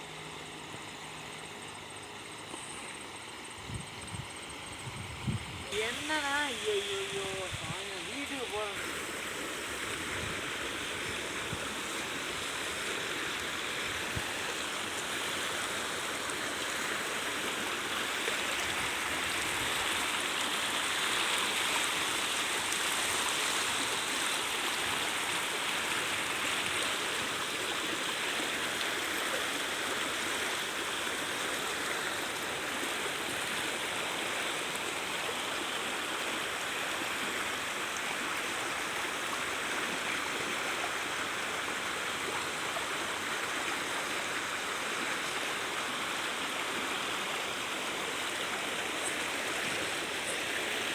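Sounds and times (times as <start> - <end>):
floodwater rushing down stream: 0.0 - 50.9.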